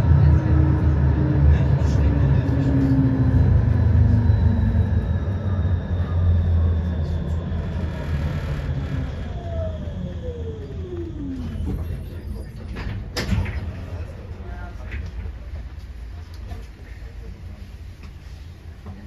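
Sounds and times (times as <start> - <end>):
vehicle low rumble: 0.0 - 19.0.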